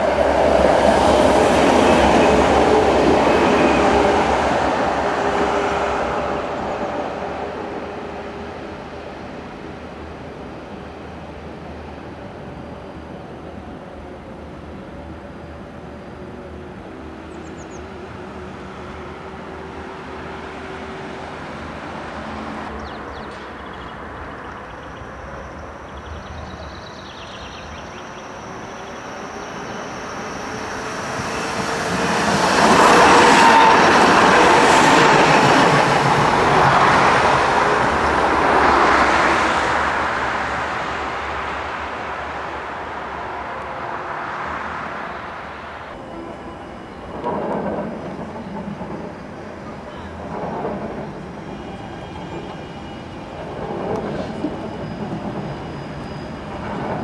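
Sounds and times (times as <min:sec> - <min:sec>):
electric tram passing: 0:00.0 - 0:57.0.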